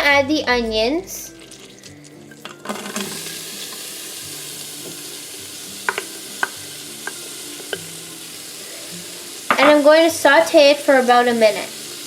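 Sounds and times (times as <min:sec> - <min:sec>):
onions sizzling in butter: 0:01.4 - 0:12.0.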